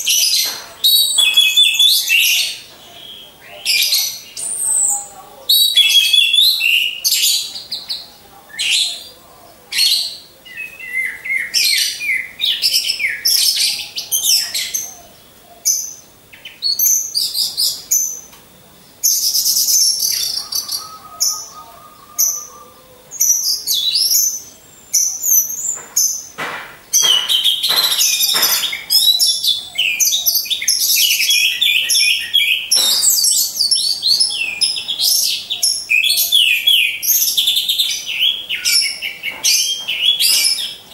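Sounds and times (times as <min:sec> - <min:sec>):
birds chirping and warbling: 0:00.0 - 0:40.9.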